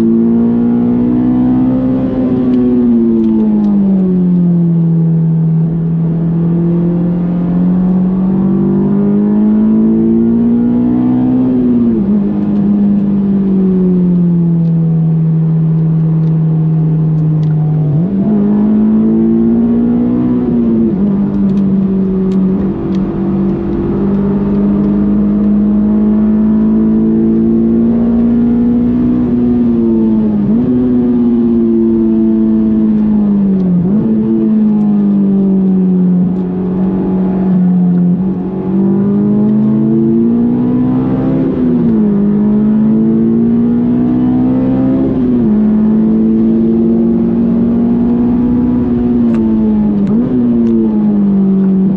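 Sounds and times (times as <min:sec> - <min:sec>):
car engine revving under load: 0:00.0 - 0:51.9.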